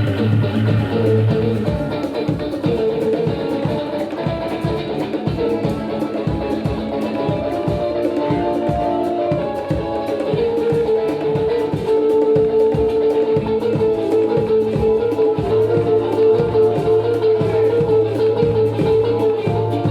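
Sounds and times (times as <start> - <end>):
quick percussion beat: 0.0 - 19.9.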